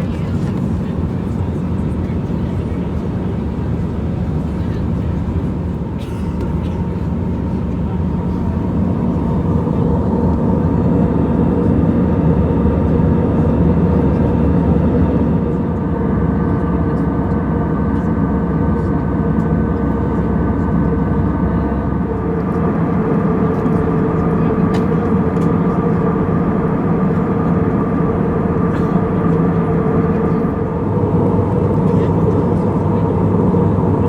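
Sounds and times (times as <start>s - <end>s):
jet engines roaring in cabin: 0.0s - 34.0s.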